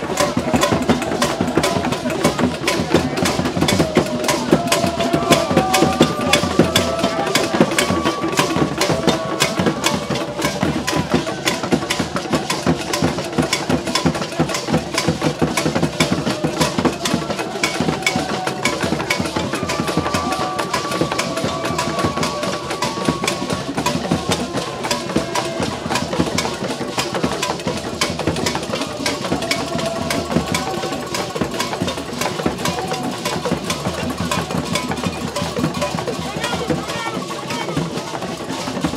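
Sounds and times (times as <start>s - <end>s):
fast drumming: 0.0s - 38.9s
voices singing or calling: 0.0s - 38.9s.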